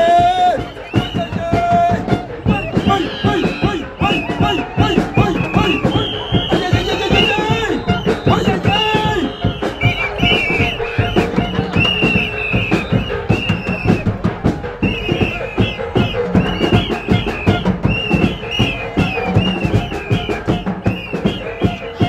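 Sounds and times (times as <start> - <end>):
drums beating fast rhythm: 0.0 - 22.0.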